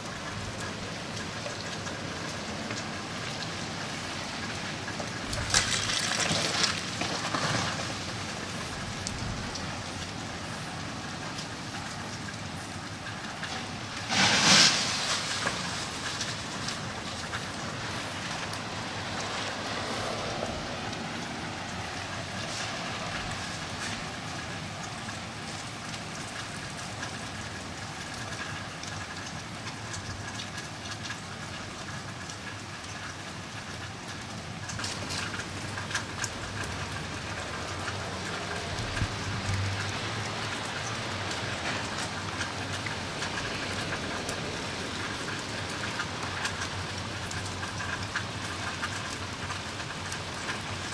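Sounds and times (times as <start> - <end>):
freezing rain hissing: 0.0 - 50.9.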